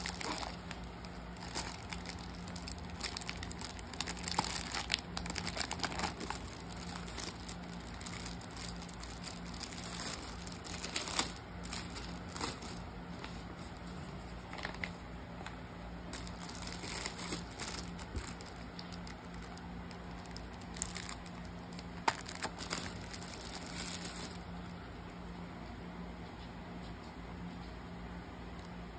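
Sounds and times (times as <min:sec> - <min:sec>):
plastic packaging crinkling: 0:00.0 - 0:24.7.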